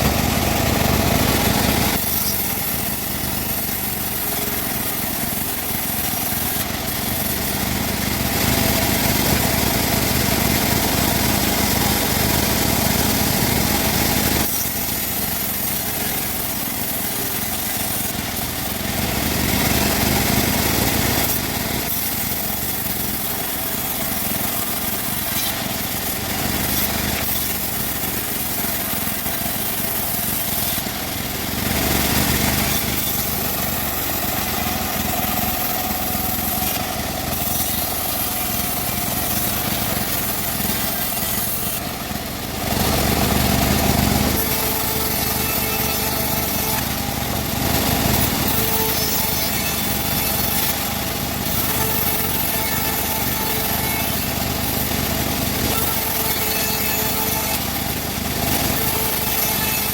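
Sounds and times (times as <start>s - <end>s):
bandsaw cutting wood: 0.0s - 59.9s.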